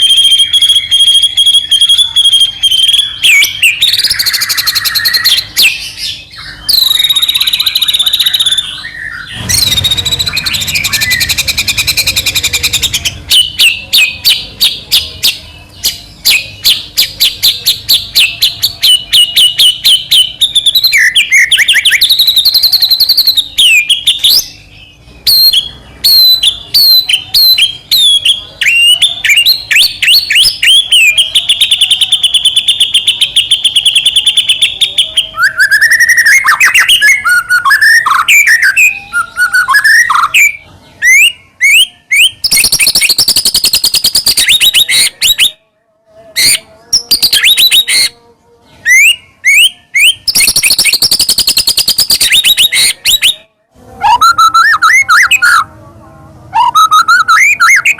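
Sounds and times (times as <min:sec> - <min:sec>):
songbird singing loudly: 0:00.0 - 0:45.6, 0:48.8 - 0:53.4.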